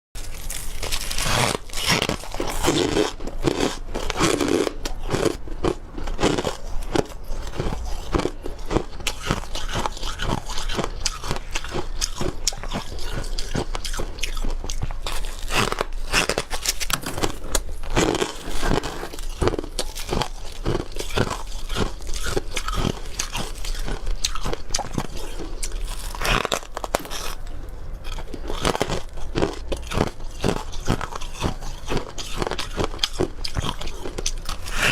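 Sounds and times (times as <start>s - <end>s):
chewing crunchy ice: 0.2s - 34.9s.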